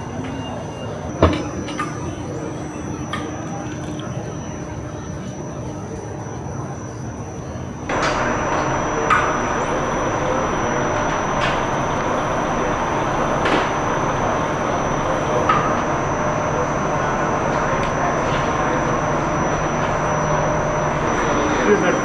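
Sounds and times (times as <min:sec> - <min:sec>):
mechanical running noise: 0:00.0 - 0:22.0.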